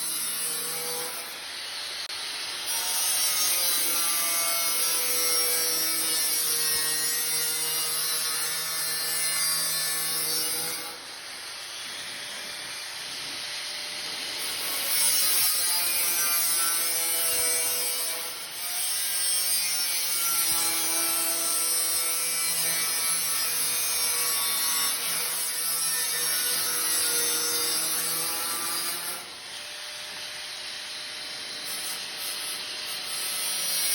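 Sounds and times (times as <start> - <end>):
angle grinder cutting: 0.0 - 33.9.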